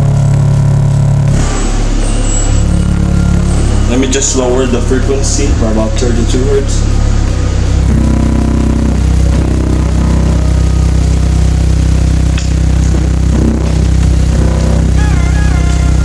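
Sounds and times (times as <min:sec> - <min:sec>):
enclosure buzzing and rattling: 0:00.0 - 0:16.0
subwoofer low test tone: 0:00.0 - 0:16.0.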